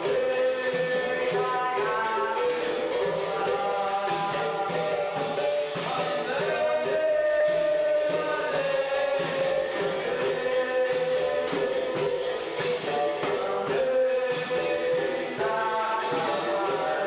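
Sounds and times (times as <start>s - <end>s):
hand drum: 0.0s - 17.0s
voices singing a chant: 0.0s - 17.0s.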